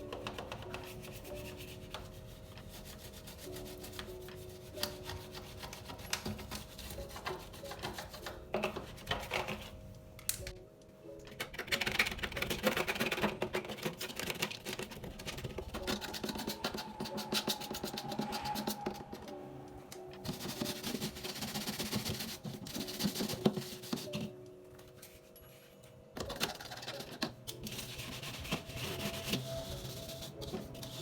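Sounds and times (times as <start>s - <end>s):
soft background music: 0.0s - 31.0s.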